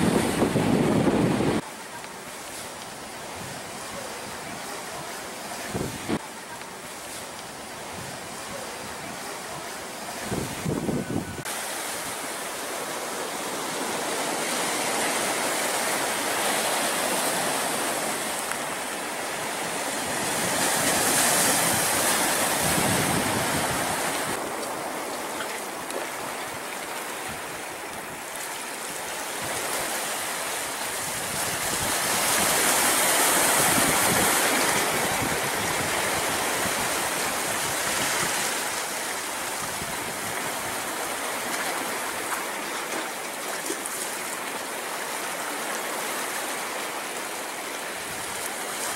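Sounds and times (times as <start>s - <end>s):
surf washing onto beach: 0.0s - 48.9s.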